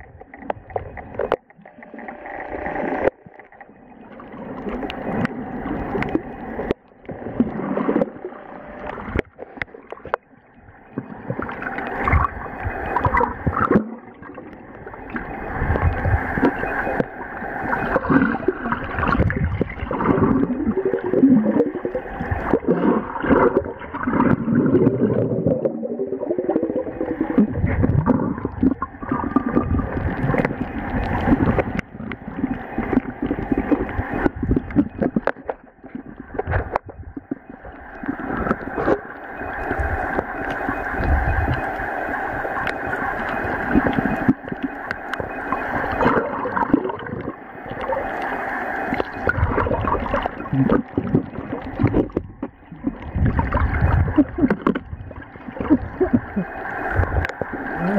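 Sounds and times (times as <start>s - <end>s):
muffled underwater sloshing: 0.0s - 57.9s.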